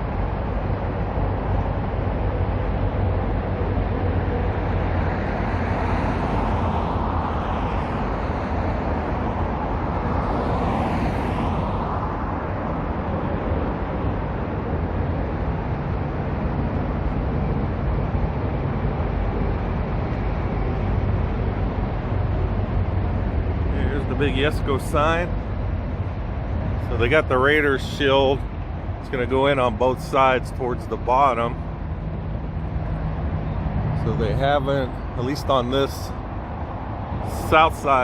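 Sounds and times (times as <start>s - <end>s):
rumble of cars: 0.0s - 38.0s
vehicles passing: 0.0s - 38.0s.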